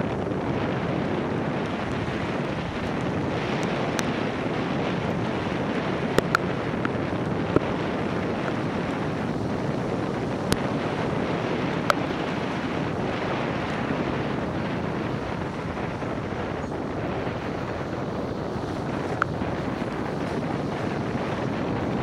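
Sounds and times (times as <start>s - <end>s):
wind and rain on microphone: 0.0s - 22.0s.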